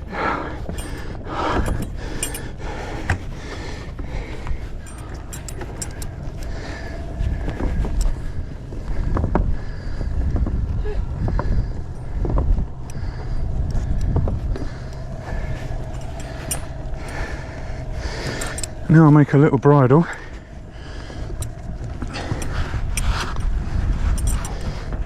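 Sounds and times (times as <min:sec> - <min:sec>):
boat engine idling: 0:00.0 - 0:25.0
wind buffeting microphone: 0:00.0 - 0:25.0.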